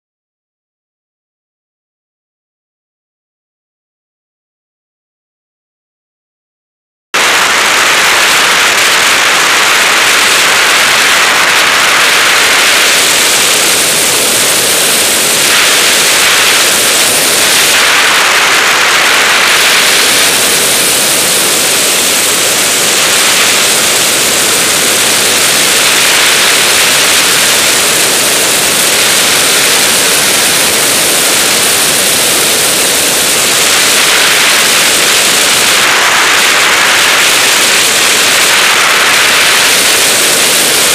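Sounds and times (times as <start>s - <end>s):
wind noise rushing: 7.2s - 40.9s.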